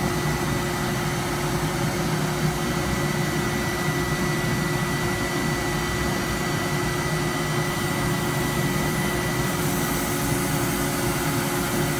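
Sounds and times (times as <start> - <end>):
constant high whine: 0.0 - 11.9.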